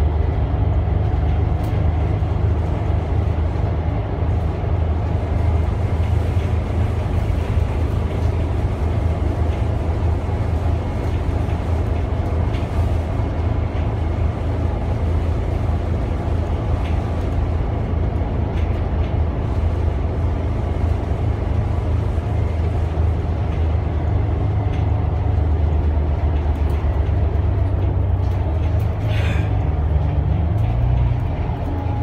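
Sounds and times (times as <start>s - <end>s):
bus engine drone: 0.0s - 32.0s
road noise: 0.0s - 32.0s.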